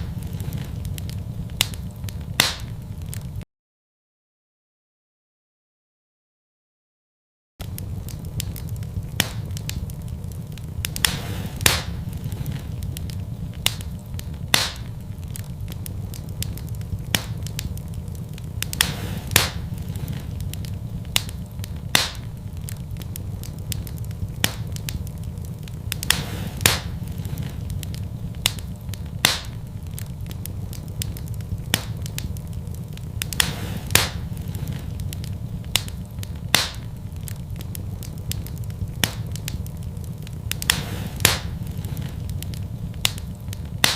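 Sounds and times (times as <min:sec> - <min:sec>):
low fire rumble: 0:00.0 - 0:03.4, 0:07.6 - 0:43.9
wood fire crackling and popping: 0:00.0 - 0:03.4, 0:07.6 - 0:43.9.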